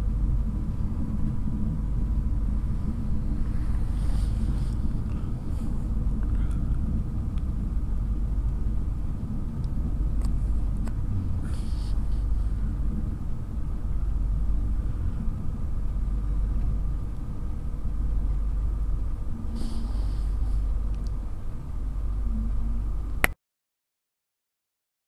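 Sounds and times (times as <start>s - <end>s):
train wheels rumbling: 0.0s - 23.2s.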